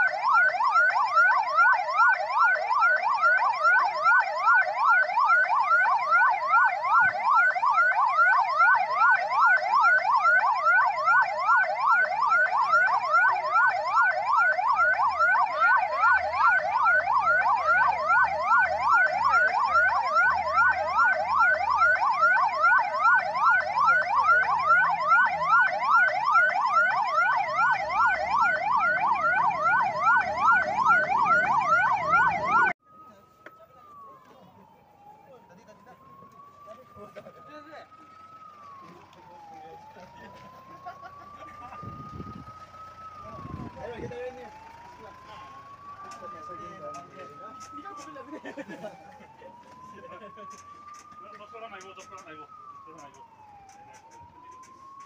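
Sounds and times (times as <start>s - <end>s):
ambulance siren yelping: 0.0s - 55.0s.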